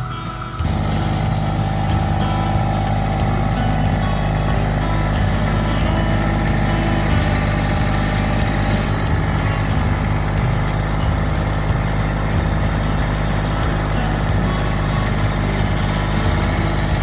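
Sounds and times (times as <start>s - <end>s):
background music: 0.0s - 17.0s
tractor diesel engine running: 0.0s - 17.0s.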